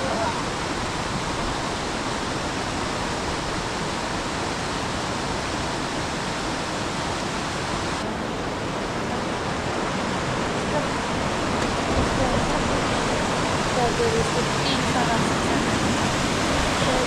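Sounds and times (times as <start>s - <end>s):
mountain river rushing: 0.0s - 17.0s.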